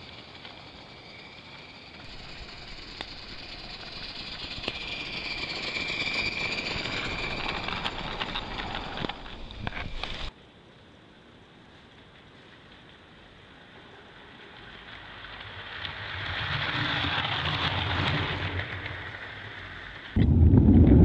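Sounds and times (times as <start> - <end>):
steam locomotive running past: 0.0 - 10.3, 11.9 - 21.0.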